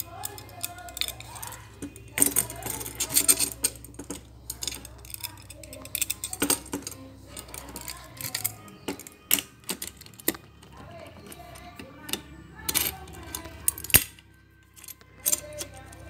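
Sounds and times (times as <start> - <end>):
small metal parts clinking: 0.0 - 16.0.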